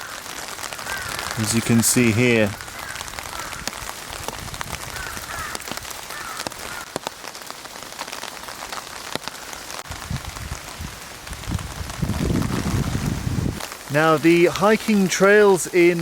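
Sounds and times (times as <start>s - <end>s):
rain drops ticking: 0.0s - 16.0s.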